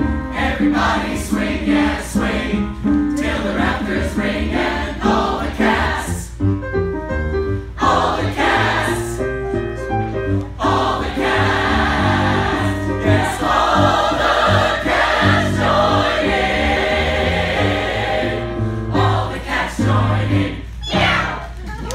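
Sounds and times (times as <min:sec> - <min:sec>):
chorus singing: 0:00.0 - 0:06.3, 0:07.8 - 0:09.2, 0:10.6 - 0:21.4.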